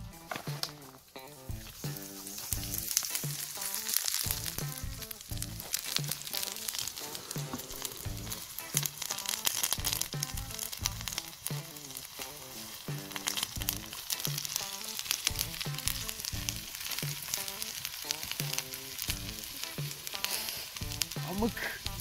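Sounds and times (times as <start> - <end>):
background music with beat: 0.0 - 22.0
potatoes sizzling in skillet: 0.0 - 22.0
spatula turning potatoes: 0.0 - 22.0.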